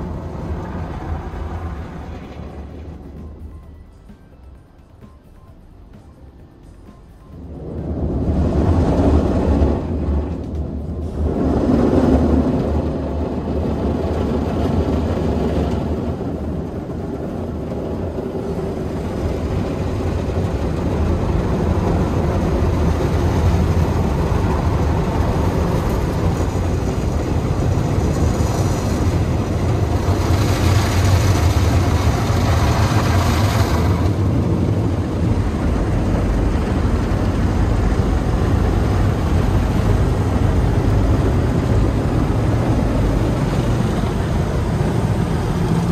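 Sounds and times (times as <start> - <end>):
car wash machinery rumbling: 0.0 - 5.0, 5.7 - 45.9.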